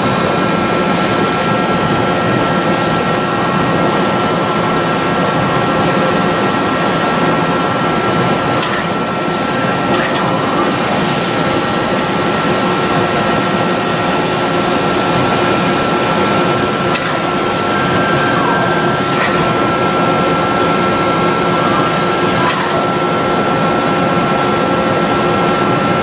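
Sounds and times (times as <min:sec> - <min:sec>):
lathe running with high whine: 0:00.0 - 0:26.0.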